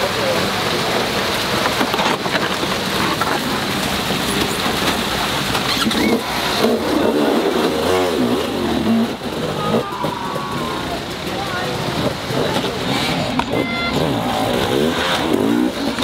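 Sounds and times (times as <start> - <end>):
motorcycle engine revving: 0.0 - 16.0
rushing water: 0.0 - 16.0.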